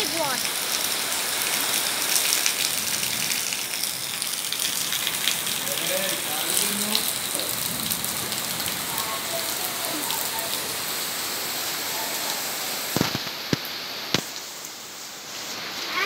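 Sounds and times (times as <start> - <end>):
heavy rain falling: 0.0 - 16.0
water pouring off roof: 0.0 - 16.0.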